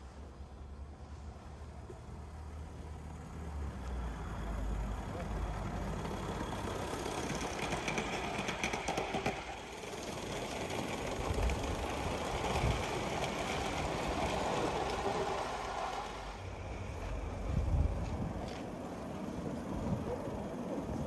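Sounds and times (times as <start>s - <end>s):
model steam train running past: 0.0s - 21.0s
wheels clicking over rail joints: 1.9s - 21.0s.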